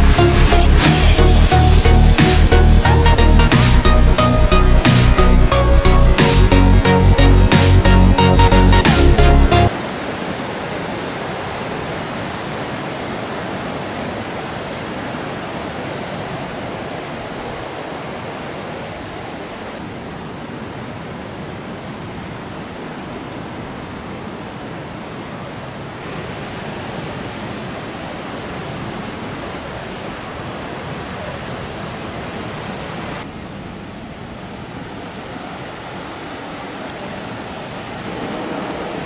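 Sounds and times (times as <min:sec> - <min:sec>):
ocean surf breaking: 0:00.0 - 0:39.0.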